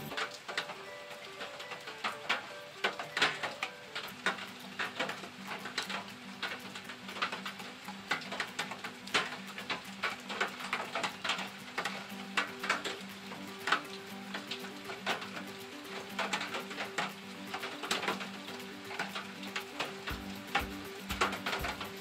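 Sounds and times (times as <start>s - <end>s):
soft hiss of rain: 0.0s - 22.0s.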